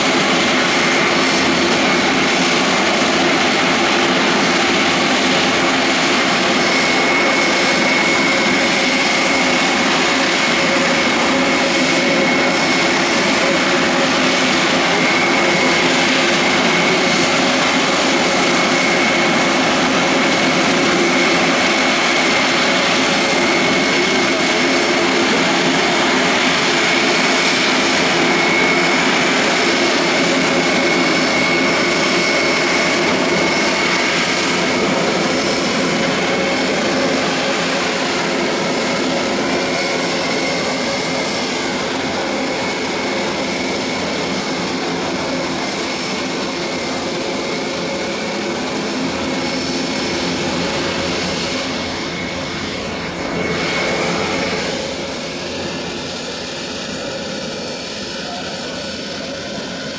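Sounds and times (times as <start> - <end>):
propeller aircraft droning: 0.0 - 59.9.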